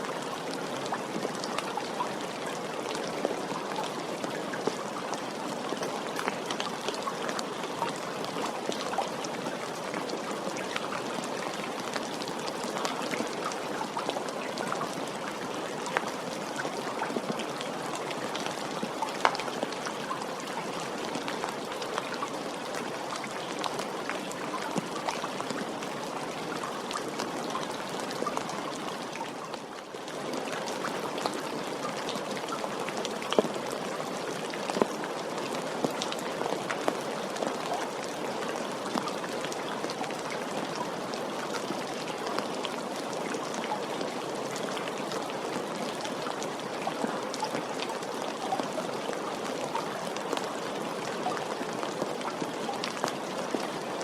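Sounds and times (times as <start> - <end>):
soft rain: 0.0 - 54.0.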